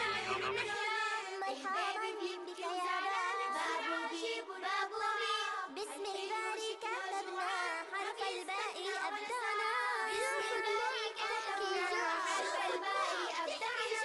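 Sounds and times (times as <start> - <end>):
child-like singing voice: 0.0 - 14.0.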